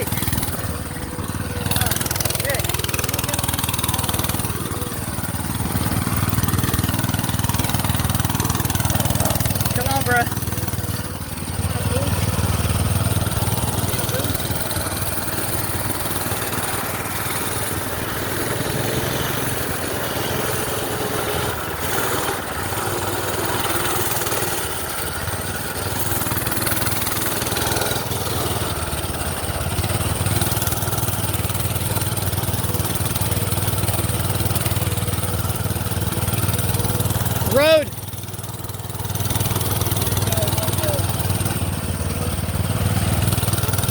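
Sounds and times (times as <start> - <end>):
small gas engine running: 0.0 - 43.9.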